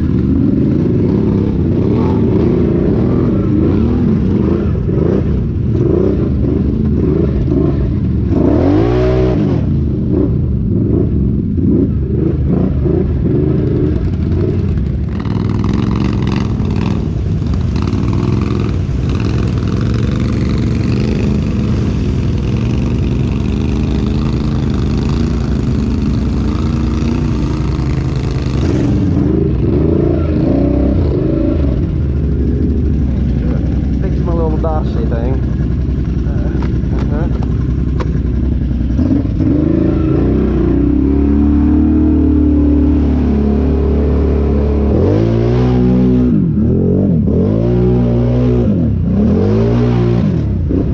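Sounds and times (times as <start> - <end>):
off-road vehicle engine revving: 0.0 - 50.9.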